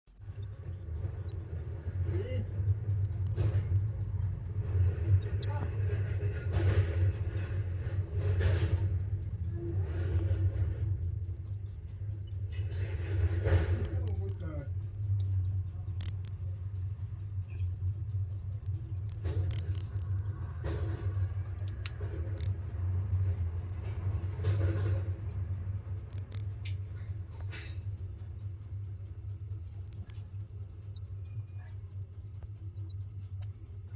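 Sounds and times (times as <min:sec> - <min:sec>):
cricket chirping: 0:00.1 - 0:33.9
low hum: 0:00.2 - 0:30.3.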